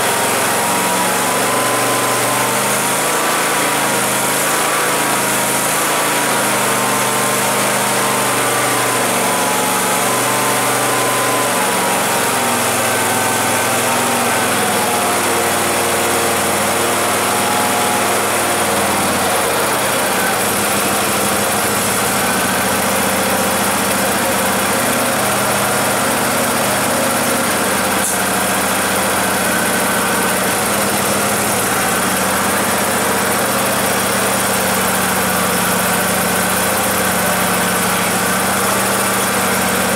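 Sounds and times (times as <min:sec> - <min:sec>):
garden tractor engine idling: 0:00.0 - 0:39.9.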